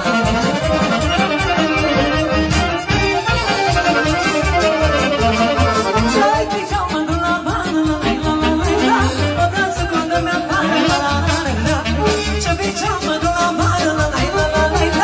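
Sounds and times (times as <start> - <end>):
accordion folk dance music: 0.0 - 15.0.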